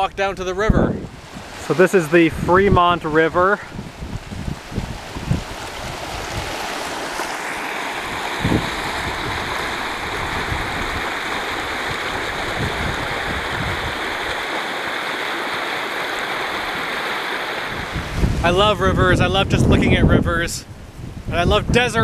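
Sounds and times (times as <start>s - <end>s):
wind buffeting microphone: 0.0s - 7.2s, 8.0s - 14.4s, 17.6s - 22.0s
river rushing over riffles: 0.9s - 19.8s.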